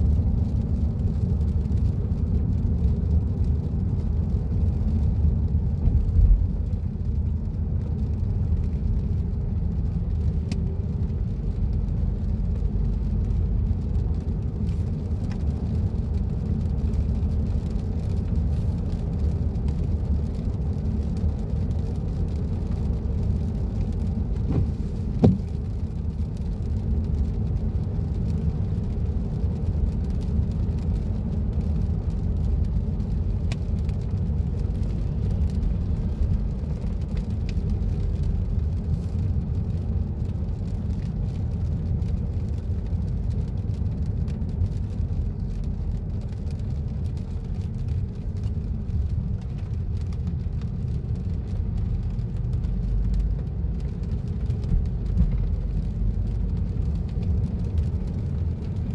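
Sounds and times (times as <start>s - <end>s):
car cabin engine and tyre rumble: 0.0s - 58.9s.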